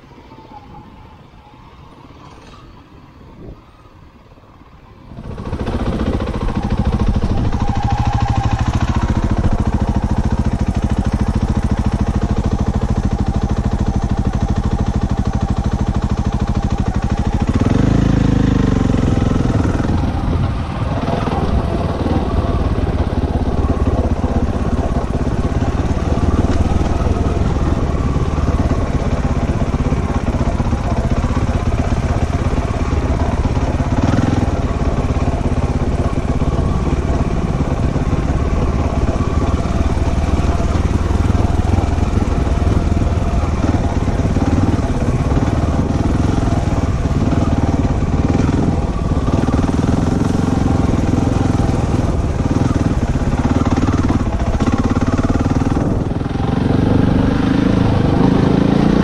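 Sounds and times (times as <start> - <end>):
motorcycle engine running: 5.1 - 59.0.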